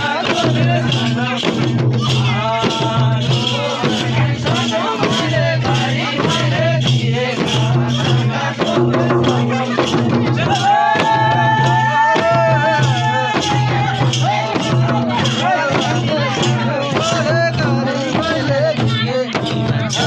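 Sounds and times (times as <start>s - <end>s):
folk singing: 0.0s - 20.0s
light percussion: 0.0s - 20.0s
steady drum beat: 0.0s - 20.0s.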